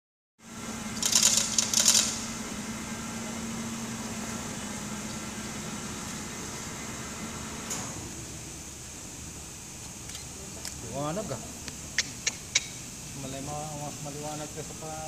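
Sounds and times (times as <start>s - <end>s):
workshop hum: 0.4s - 15.0s.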